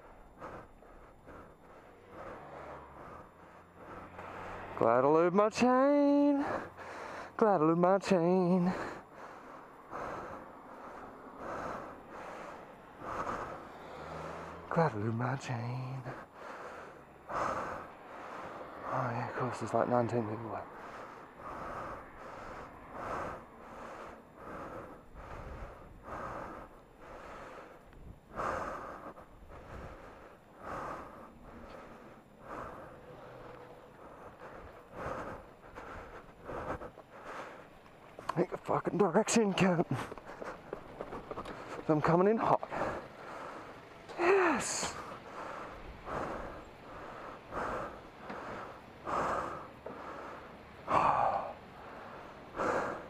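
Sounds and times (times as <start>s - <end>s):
man breathing hard: 0.0s - 4.9s, 6.2s - 7.6s, 8.2s - 53.0s.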